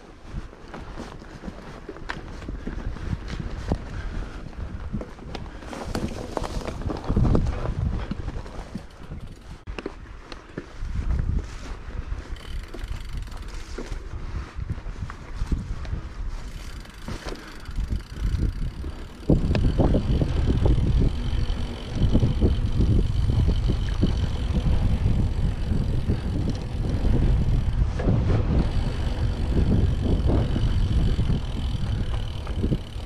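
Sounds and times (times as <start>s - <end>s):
bike tyres rumbling: 0.0s - 33.0s
wind buffeting microphone: 0.0s - 33.0s
bike knocks and rattles: 0.6s - 14.2s, 15.0s - 33.0s.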